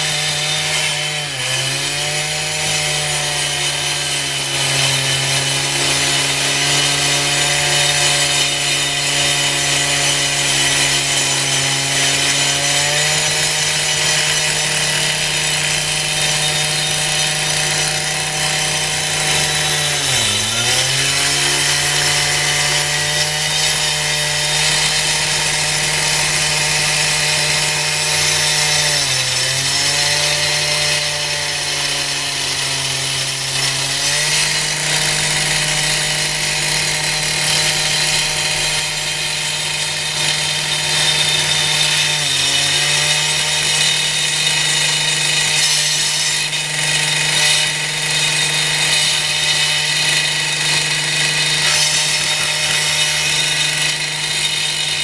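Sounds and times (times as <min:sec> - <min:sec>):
disc cutter grinding concrete: 0:00.0 - 0:55.0.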